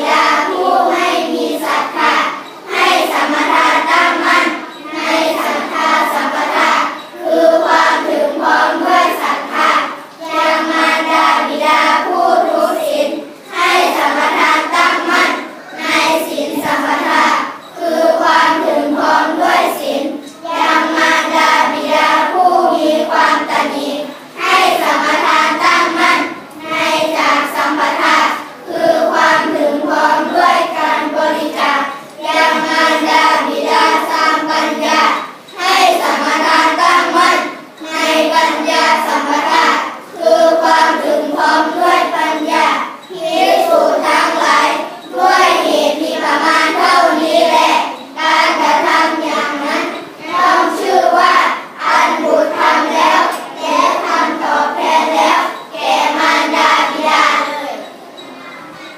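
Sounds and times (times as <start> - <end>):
children chanting in unison: 0.0 - 58.9.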